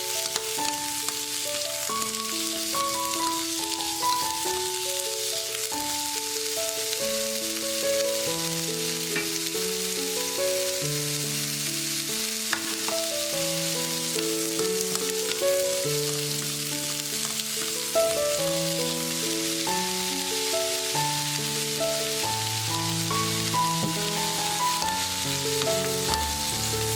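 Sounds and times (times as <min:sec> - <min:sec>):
stems sizzling in a pan: 0:00.0 - 0:26.9.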